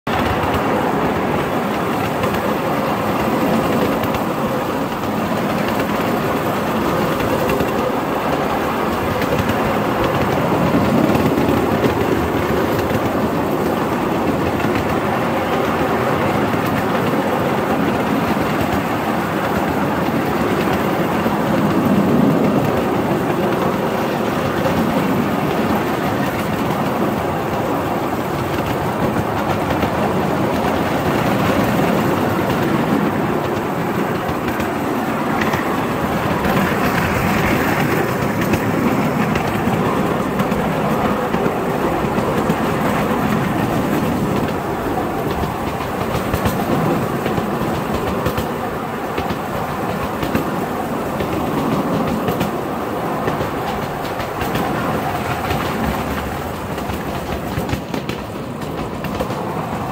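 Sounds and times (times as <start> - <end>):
miniature train rumbling on rails: 0.0 - 59.9.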